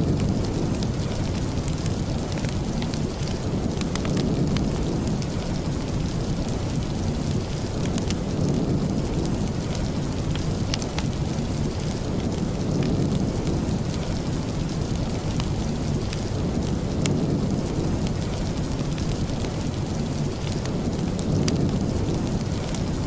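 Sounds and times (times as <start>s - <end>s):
steady rain rumble: 0.0s - 23.0s.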